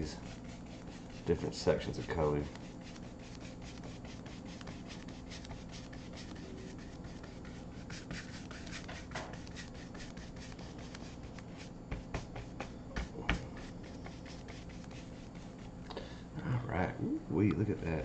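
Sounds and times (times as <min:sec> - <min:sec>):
paintbrush scrubbing on board: 0:00.0 - 0:15.8.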